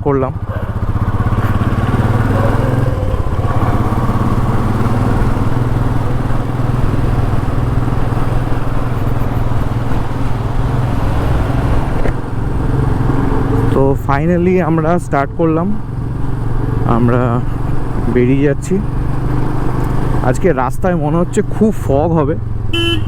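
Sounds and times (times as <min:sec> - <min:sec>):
motorcycle engine humming: 0:00.0 - 0:23.0.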